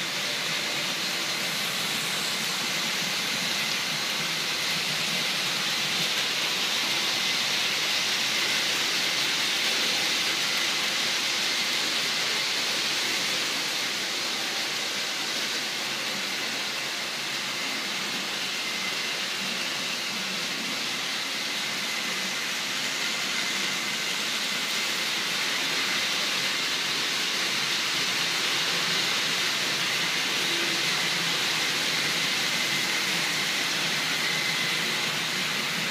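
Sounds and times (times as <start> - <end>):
model train wheels rolling on rail: 0.0 - 35.9.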